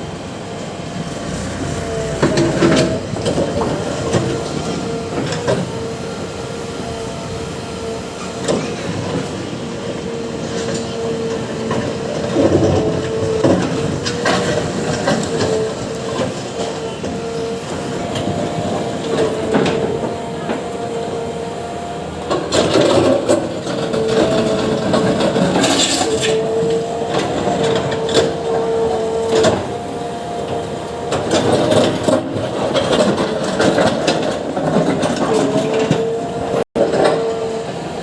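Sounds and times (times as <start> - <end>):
excavator engine whine: 0.0 - 38.0.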